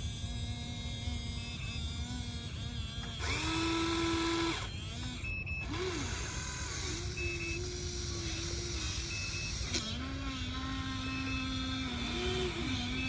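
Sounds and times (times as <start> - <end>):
toy excavator motors whining: 0.0 - 13.0.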